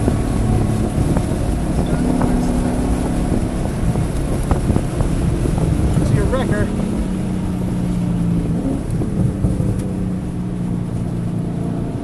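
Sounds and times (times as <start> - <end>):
car engine running hard: 0.0 - 12.0
wind noise: 0.0 - 12.0.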